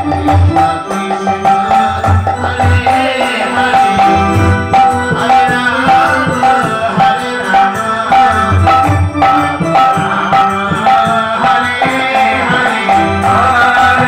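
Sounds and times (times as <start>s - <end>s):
drum beating steady rhythm: 0.0s - 14.0s
percussion jingling: 0.0s - 14.0s.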